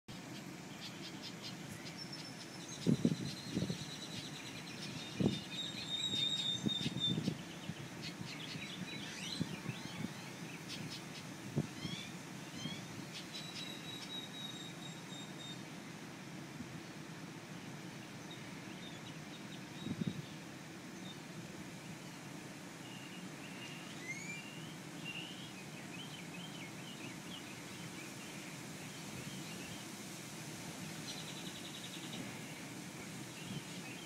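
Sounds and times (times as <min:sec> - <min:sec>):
songbirds chirping and trilling: 0:00.1 - 0:30.1, 0:30.7 - 0:34.0
low outdoor background: 0:00.1 - 0:34.0.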